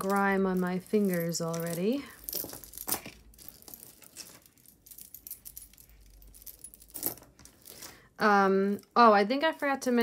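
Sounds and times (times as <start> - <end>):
jewelry chains clinking: 0.0 - 10.0.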